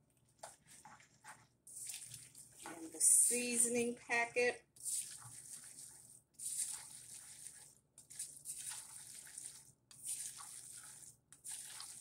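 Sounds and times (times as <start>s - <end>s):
spatula stirring macaroni: 0.0s - 3.5s, 4.7s - 12.0s.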